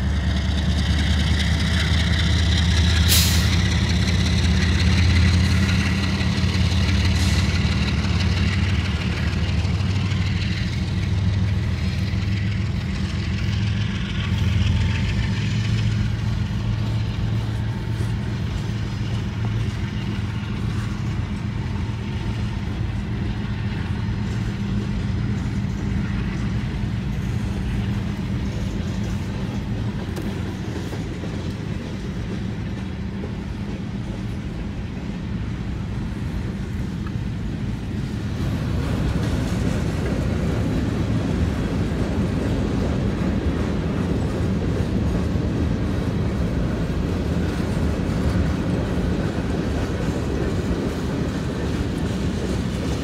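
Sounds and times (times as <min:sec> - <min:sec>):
train wheels clicking and rumbling: 0:00.0 - 0:53.0.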